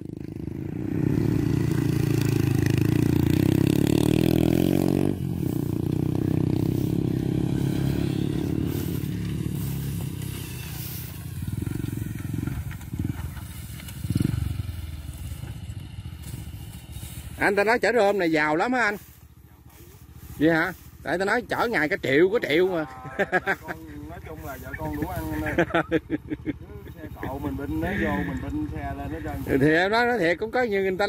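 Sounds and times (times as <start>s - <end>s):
small motorcycle engine under load: 0.0s - 31.0s.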